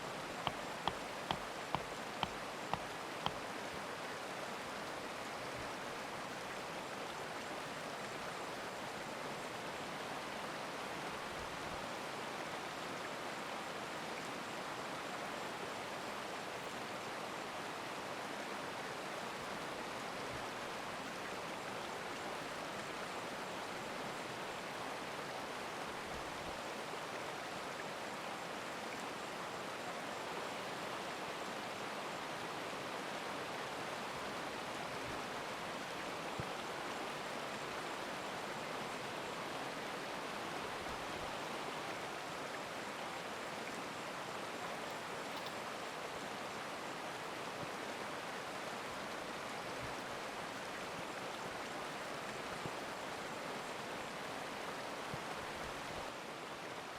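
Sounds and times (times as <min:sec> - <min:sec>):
stream rushing: 0:00.0 - 0:56.9.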